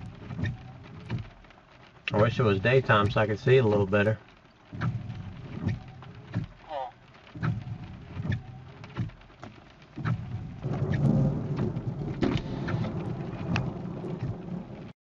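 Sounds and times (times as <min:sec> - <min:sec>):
raindrops ticking on surfaces: 0:00.0 - 0:15.0
low storm rumble: 0:02.0 - 0:09.2, 0:09.8 - 0:15.0.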